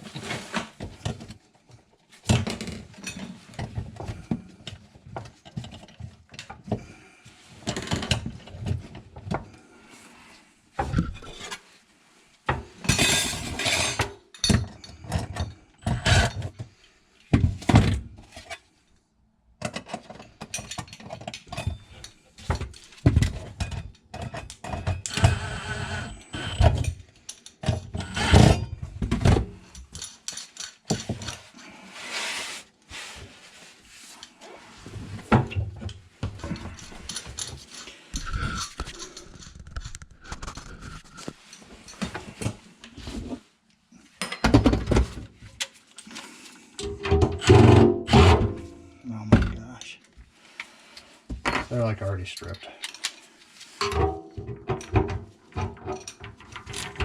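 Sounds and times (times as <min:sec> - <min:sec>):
tools and plumbing parts clattering: 0:00.0 - 0:09.5, 0:10.8 - 0:11.7, 0:12.5 - 0:18.7, 0:19.6 - 0:31.8, 0:34.2 - 0:43.5, 0:44.1 - 0:49.6, 0:51.3 - 0:57.0.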